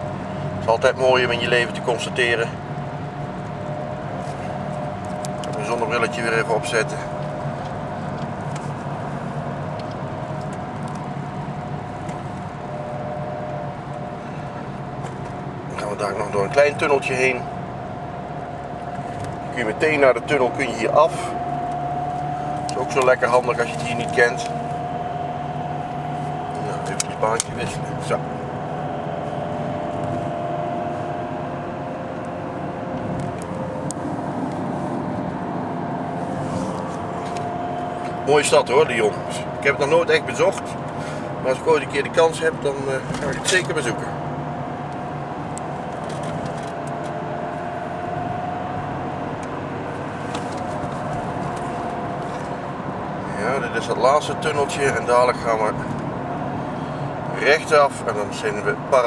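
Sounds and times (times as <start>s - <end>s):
car engine and tyre noise: 0.0s - 59.0s
steady whine: 0.0s - 59.0s.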